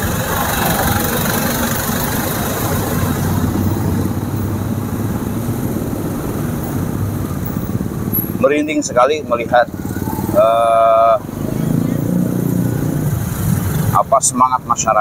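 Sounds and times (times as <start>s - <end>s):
motorcycle engine running low: 0.0s - 14.0s
surrounding traffic noise: 0.0s - 15.0s.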